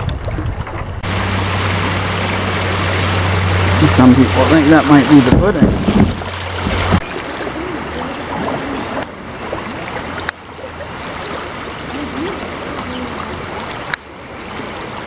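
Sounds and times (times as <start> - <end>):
creek water rushing: 0.2 - 15.0.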